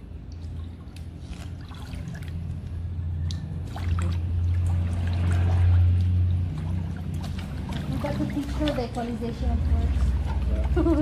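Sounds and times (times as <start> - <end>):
pool water sloshing and trickling: 0.0 - 11.0.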